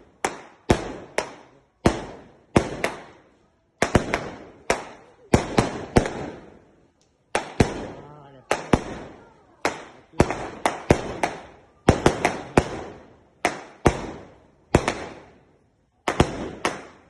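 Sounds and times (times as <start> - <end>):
fireworks bursting with echo: 0.0 - 17.0.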